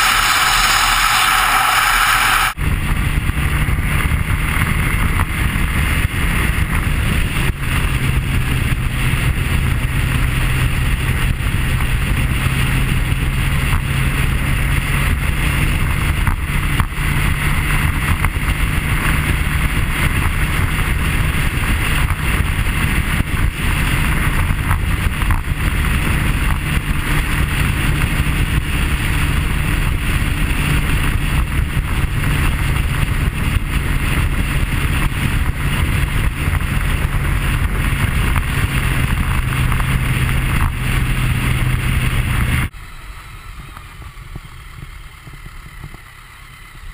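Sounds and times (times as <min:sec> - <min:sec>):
motorcycle engine cruising: 0:00.0 - 0:46.9
wind rush on microphone: 0:00.0 - 0:46.9.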